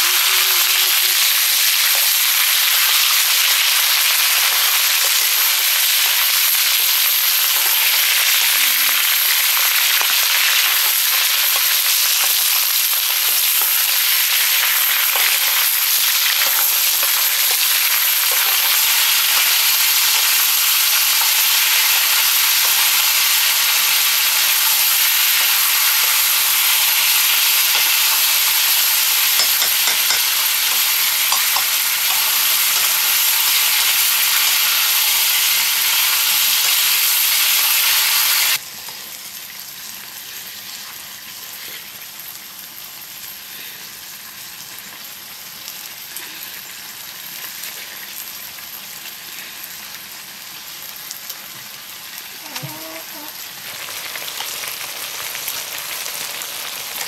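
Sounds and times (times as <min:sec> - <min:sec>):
potatoes sizzling in hot oil: 0:00.0 - 0:57.0.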